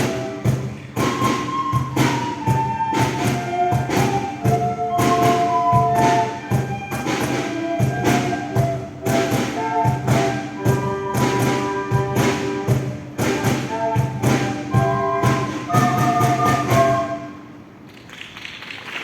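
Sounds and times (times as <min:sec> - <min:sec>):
held melody notes: 0:00.0 - 0:17.6.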